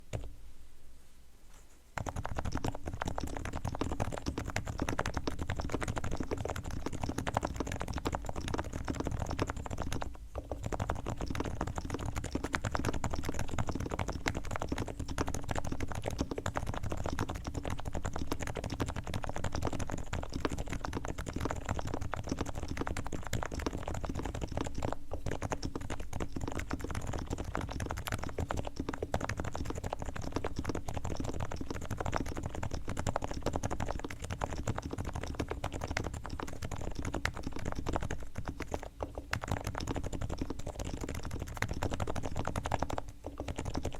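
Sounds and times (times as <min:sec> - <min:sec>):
keyboard typing: 0:00.0 - 0:00.3, 0:02.0 - 0:43.9.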